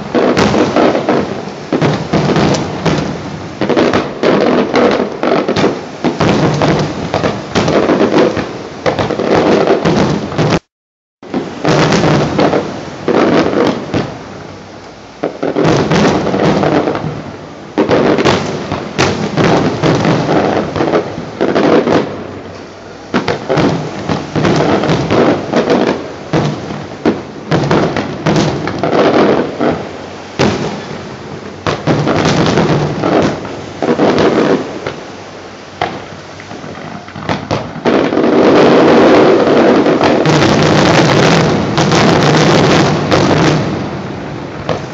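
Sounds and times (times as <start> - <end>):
fireworks crackling bangs: 0.0 - 44.9.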